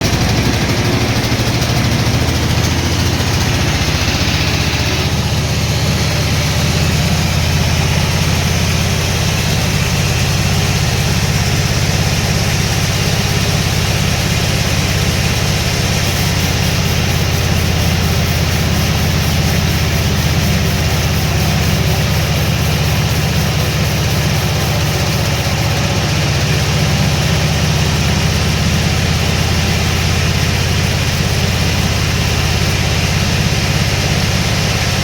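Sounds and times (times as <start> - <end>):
sawmill engine running: 0.0 - 35.0.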